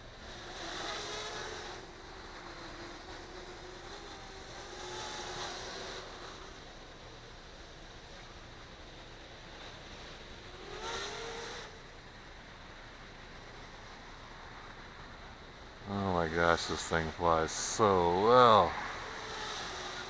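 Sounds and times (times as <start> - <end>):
quadcopter propellers whining: 0.0 - 12.2, 15.2 - 20.0.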